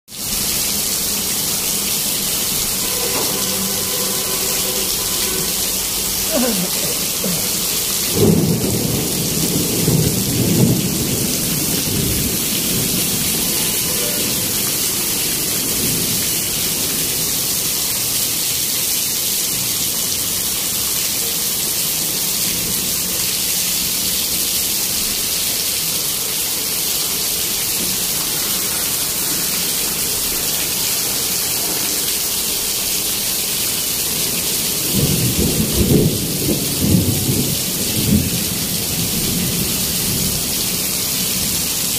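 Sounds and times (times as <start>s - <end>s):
heavy rain on pavement: 0.1s - 41.9s.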